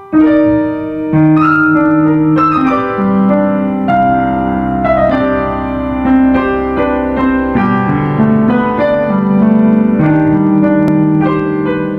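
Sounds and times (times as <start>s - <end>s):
piano music: 0.0s - 11.9s.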